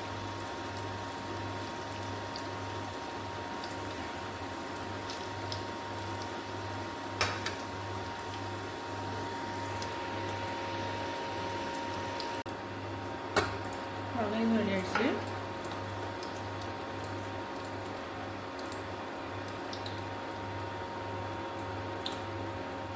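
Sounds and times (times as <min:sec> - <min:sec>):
food bubbling in a pan: 0:00.0 - 0:22.9.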